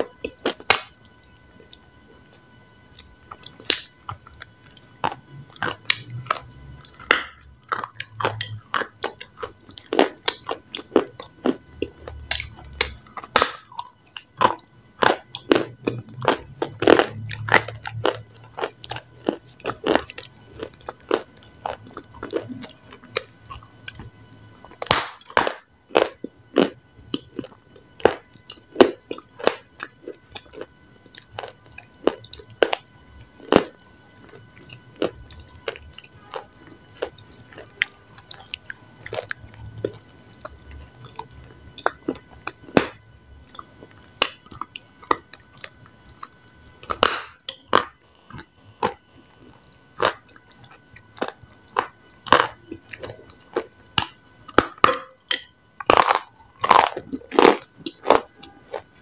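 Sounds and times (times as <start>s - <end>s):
crunchy food being bitten: 0.0s - 59.0s
chewing: 2.9s - 59.0s.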